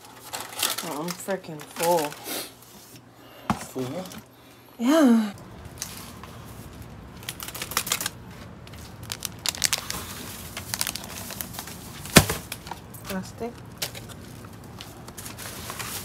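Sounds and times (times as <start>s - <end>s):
plastic and cardboard packaging rustling: 0.0s - 4.3s, 5.4s - 16.0s.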